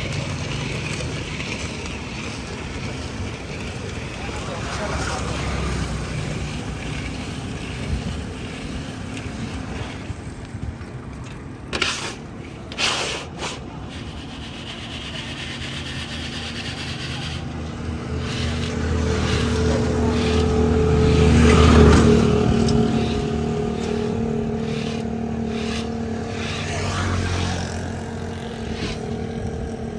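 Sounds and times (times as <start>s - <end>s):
short scraping bursts: 0.0s - 10.2s, 11.7s - 29.5s
vehicle engine: 0.0s - 12.8s, 13.6s - 29.9s
roadside traffic noise: 0.0s - 29.9s.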